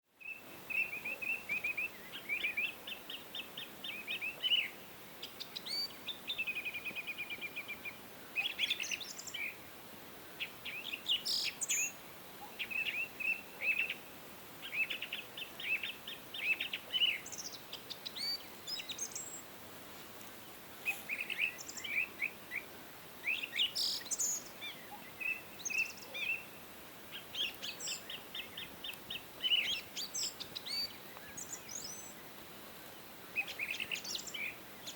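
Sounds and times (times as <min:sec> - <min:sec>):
faint outdoor background hiss: 0:00.0 - 0:34.9
small birds chirping: 0:00.1 - 0:09.7, 0:10.3 - 0:19.5, 0:20.2 - 0:34.9.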